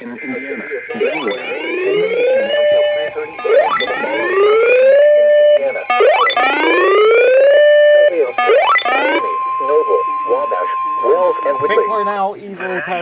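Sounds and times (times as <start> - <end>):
electronic warning siren whooping: 0.0 - 12.3.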